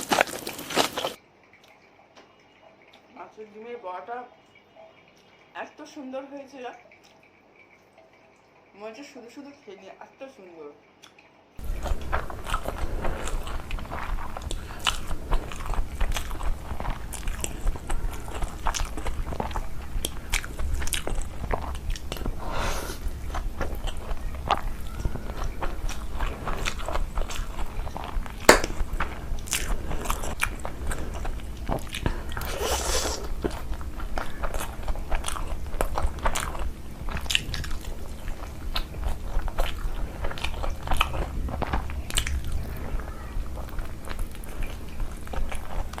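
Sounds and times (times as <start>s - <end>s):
person chewing food: 0.0s - 1.8s, 11.0s - 46.0s.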